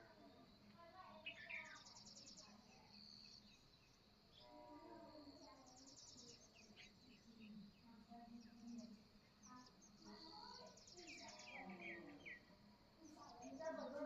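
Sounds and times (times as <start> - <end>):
birds chirping: 0.0 - 14.0
faint high insect-like tone: 0.0 - 14.0.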